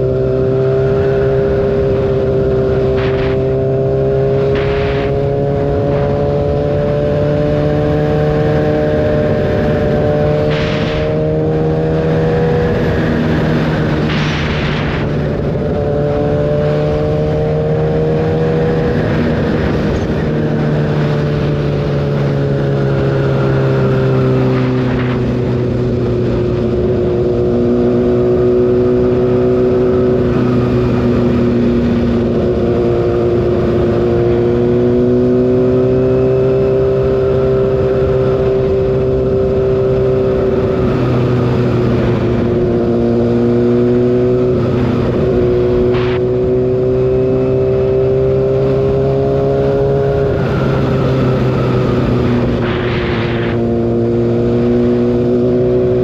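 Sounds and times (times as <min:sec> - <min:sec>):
constant rush of noise: 0:00.0 - 0:56.0
motorcycle engine running: 0:00.0 - 0:56.0.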